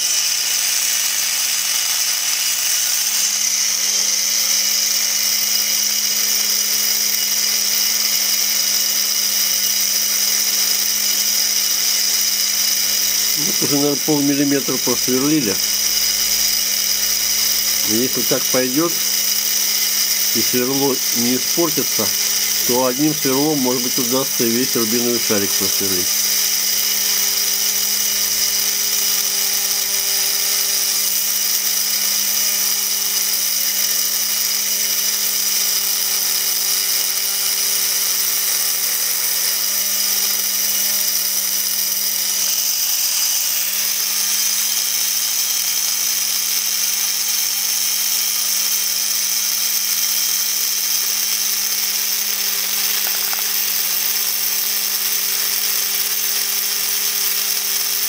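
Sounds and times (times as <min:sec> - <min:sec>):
electric drill grinding: 0:00.0 - 0:58.0.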